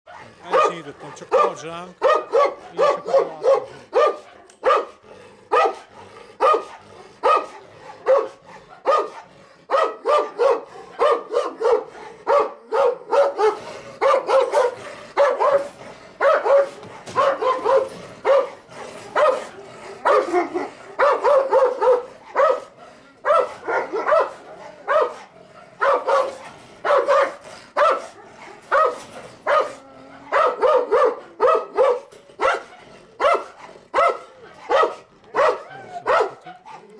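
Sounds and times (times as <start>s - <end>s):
dog barking in rapid volleys: 0.1s - 36.9s.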